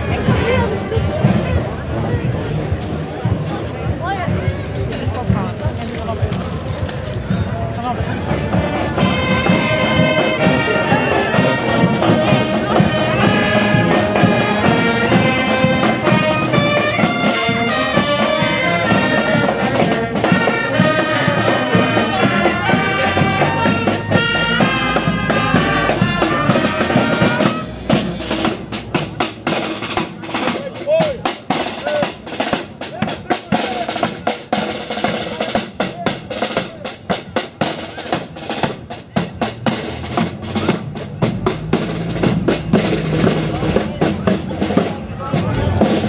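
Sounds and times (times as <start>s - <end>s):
brass band playing: 8.2s - 46.0s.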